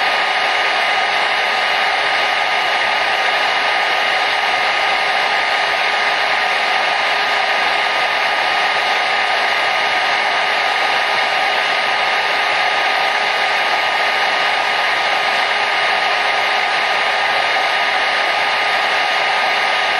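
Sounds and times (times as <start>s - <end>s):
hair dryer running: 0.0s - 19.9s.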